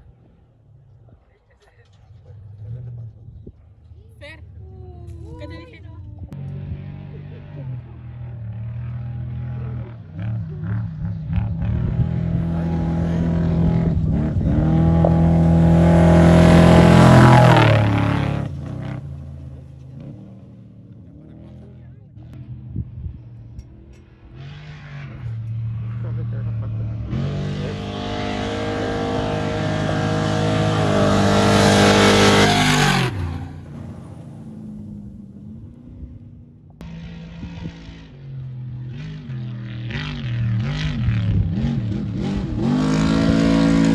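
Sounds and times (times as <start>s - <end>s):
race vehicle engine at high revs: 5.2s - 43.9s.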